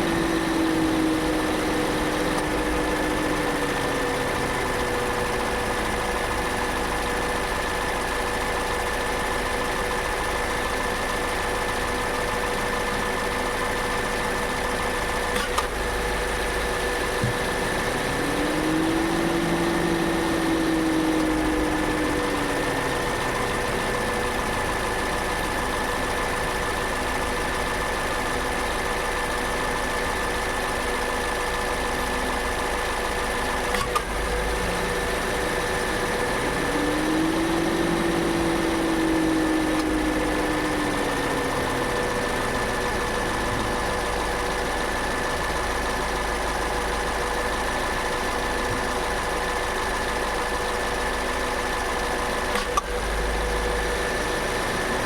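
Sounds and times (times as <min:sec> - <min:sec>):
car engine humming: 0:00.0 - 0:30.2, 0:31.6 - 0:49.2, 0:51.8 - 0:55.0.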